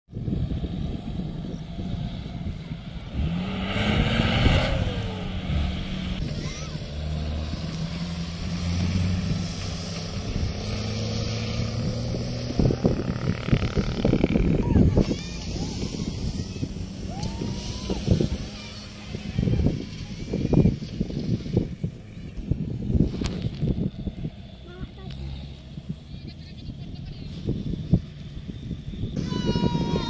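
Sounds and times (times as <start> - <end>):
off-road vehicle engine revving: 0.2 - 30.0.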